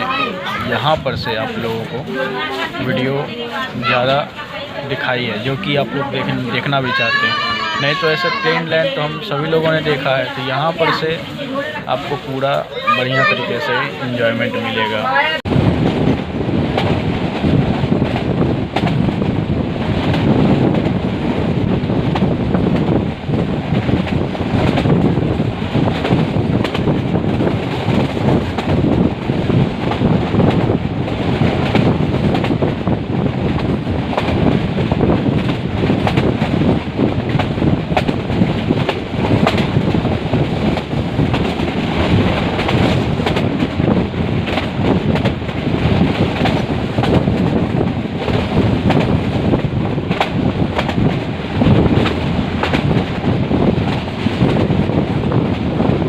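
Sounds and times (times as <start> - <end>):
train rumbling: 0.0 - 56.0
wind buffeting microphone: 0.0 - 56.0.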